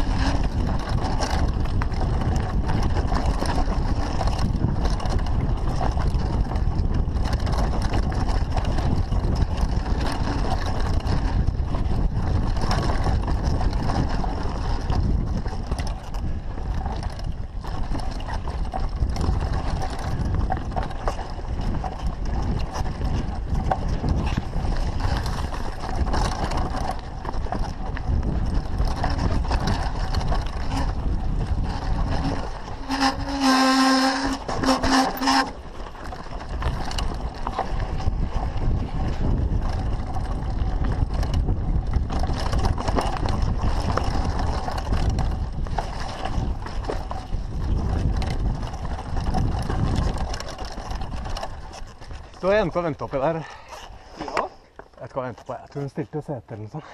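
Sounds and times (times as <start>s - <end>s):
wind rushing over microphone: 0.0s - 54.6s
bike rattling over bumps: 0.0s - 56.2s.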